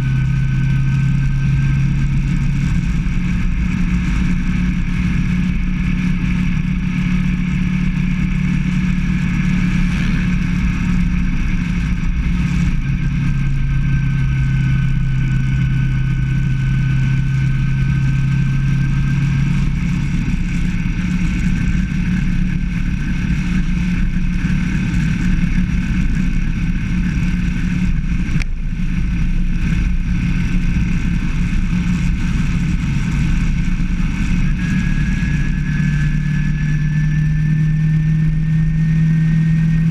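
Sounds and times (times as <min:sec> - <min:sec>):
low rumble of wind: 0:00.0 - 0:39.9
motorcycle engine running: 0:00.0 - 0:39.9.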